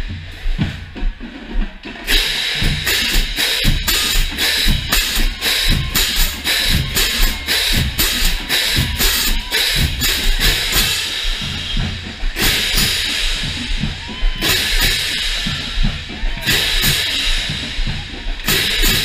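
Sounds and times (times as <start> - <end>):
marching drums beating: 0.0 - 19.0
crash cymbals clashing: 2.1 - 15.8, 16.4 - 19.0.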